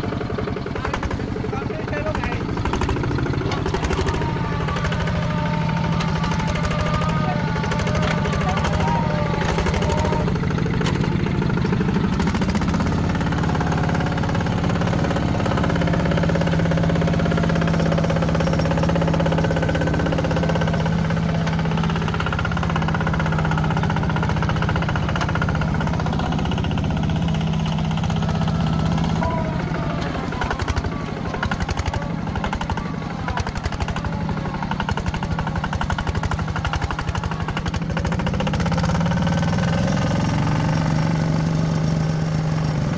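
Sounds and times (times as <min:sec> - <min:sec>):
diesel engine clattering at high revs: 0:00.0 - 0:42.9.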